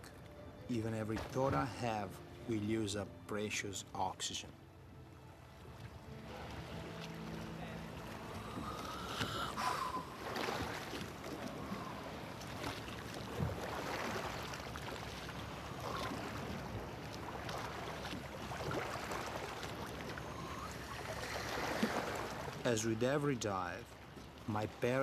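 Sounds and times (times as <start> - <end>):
sea water sloshing and lapping: 0.0 - 25.0.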